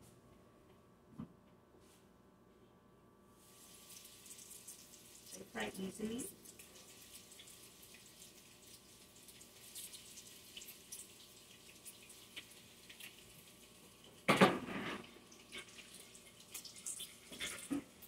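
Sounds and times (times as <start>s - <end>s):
rice balls sizzling in oil: 3.4s - 18.0s.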